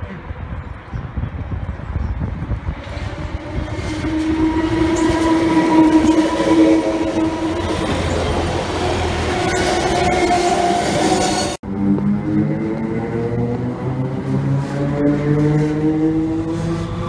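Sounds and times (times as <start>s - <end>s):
train wheels rumbling: 1.8s - 17.0s
train whining tones: 2.5s - 17.0s.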